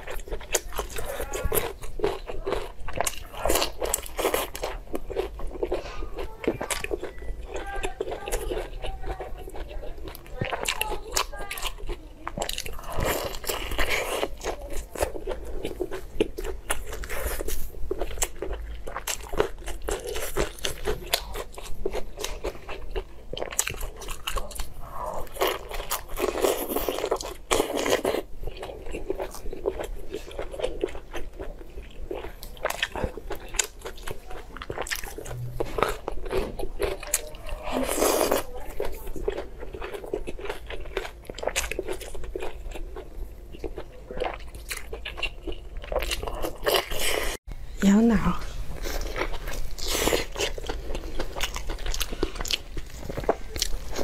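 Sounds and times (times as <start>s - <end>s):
chewing with mouth clicks: 0.0s - 47.4s, 48.7s - 54.0s.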